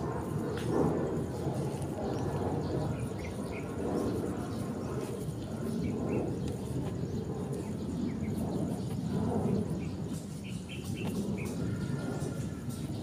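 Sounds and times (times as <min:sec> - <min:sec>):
low outdoor rumble: 0:00.0 - 0:13.0
bird chirping: 0:02.1 - 0:13.0.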